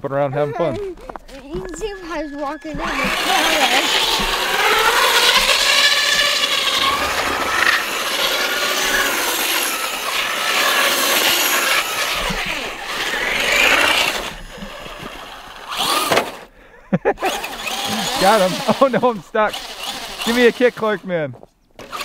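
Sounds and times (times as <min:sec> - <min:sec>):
electric toy truck motor whining: 0:01.1 - 0:16.6, 0:17.2 - 0:21.1, 0:21.8 - 0:22.0.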